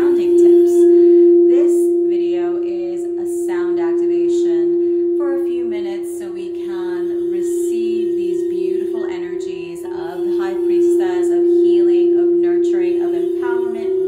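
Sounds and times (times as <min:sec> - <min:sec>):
singing bowl tone: 0:00.0 - 0:14.0
woman chanting: 0:00.0 - 0:14.0.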